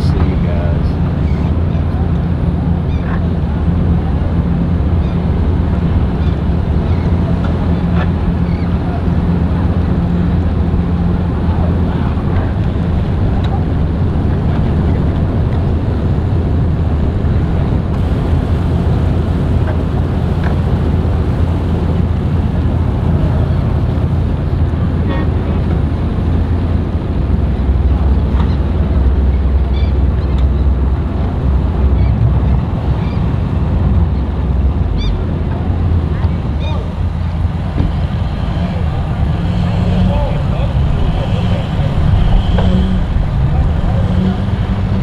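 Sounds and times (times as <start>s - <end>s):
boat engines running: 0.0s - 45.0s
wind rumbling on microphone: 0.0s - 45.0s.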